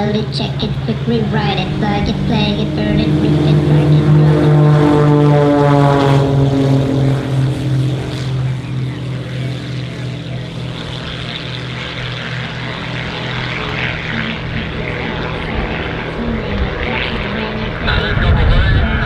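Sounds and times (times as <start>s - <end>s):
propeller plane engines: 0.0s - 19.0s.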